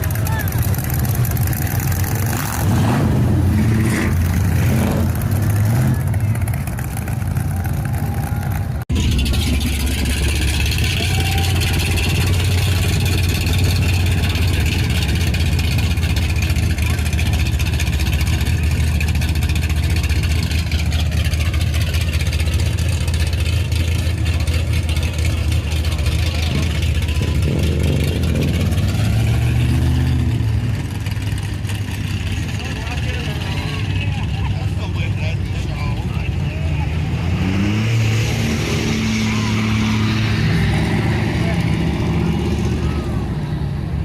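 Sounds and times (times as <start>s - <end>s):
voices: 0.0s - 8.8s, 9.9s - 44.0s
car engines driving past: 0.0s - 44.0s.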